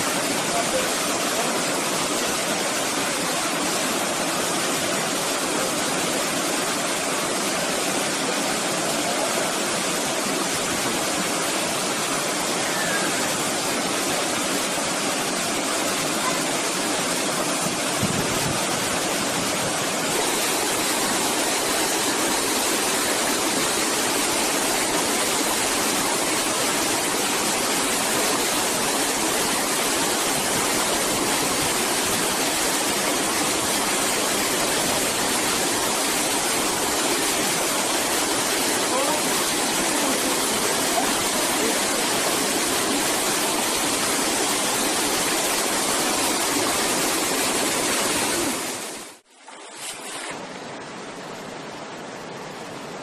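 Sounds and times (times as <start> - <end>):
small waterfall pouring into pool: 0.0 - 50.4.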